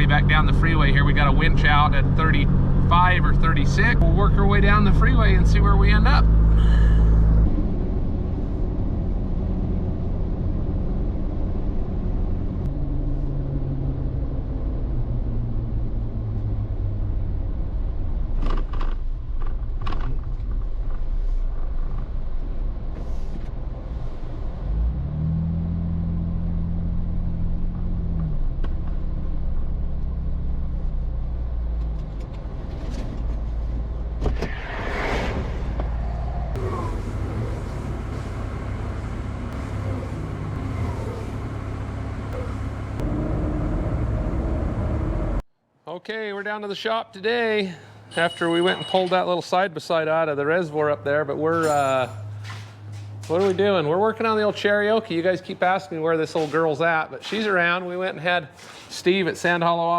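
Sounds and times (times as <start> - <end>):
truck engine drone: 0.0 - 45.5, 50.1 - 56.8
road noise: 0.0 - 59.9.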